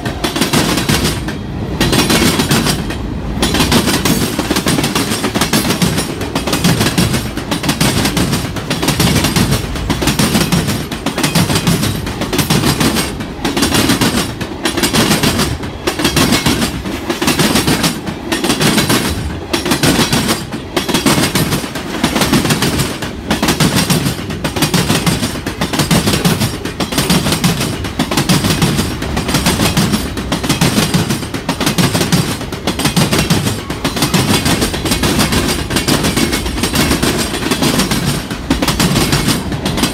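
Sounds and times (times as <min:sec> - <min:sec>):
train wheels knocking on rails: 0:00.0 - 0:39.9.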